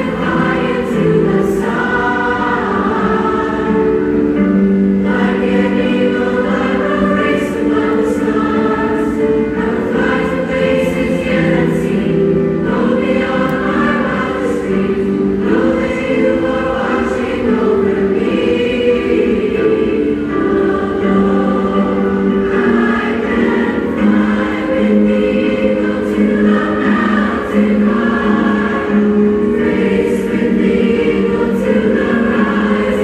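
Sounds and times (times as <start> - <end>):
choir singing slow song: 0.0 - 33.0.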